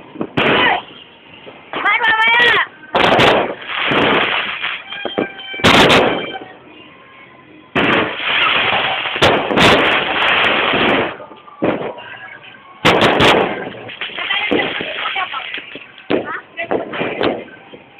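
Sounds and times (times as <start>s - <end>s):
fireworks bangs and cracks: 0.1s - 6.5s, 7.8s - 12.1s, 12.8s - 17.8s.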